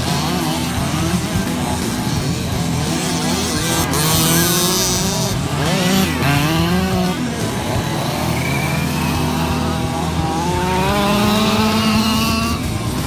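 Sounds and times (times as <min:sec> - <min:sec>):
small engines revving: 0:00.0 - 0:13.0.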